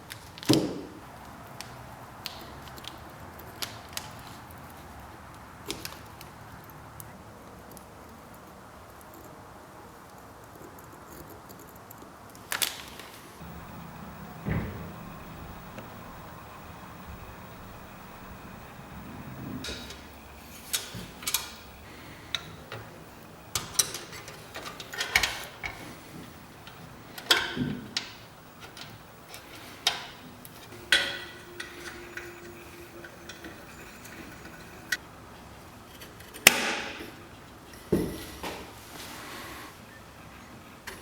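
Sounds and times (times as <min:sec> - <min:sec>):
small hard parts clicking: 0:00.0 - 0:35.0.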